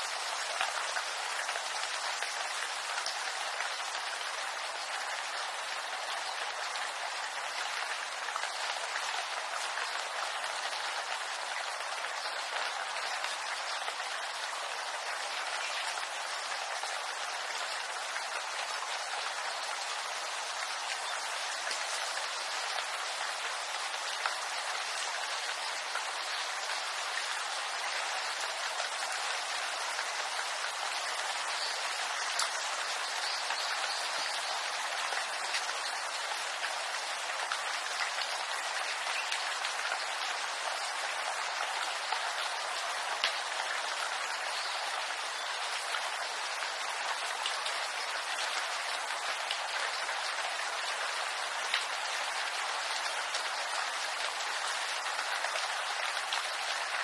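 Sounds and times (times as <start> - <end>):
rain on bamboo leaves: 0.0 - 57.0.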